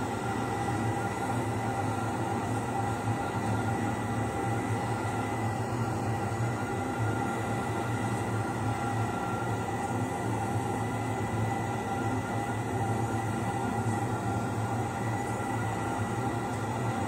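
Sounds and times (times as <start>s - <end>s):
steady multi-tone hum: 0.0s - 17.0s.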